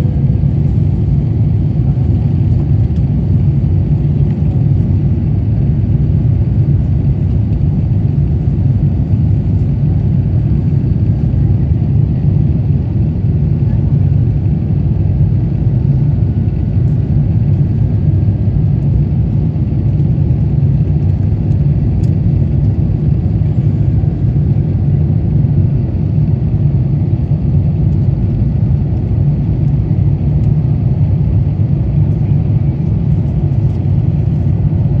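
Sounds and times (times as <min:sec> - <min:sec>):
airflow over fuselage: 0:00.0 - 0:35.0
airplane engines rumbling in cabin: 0:00.0 - 0:35.0.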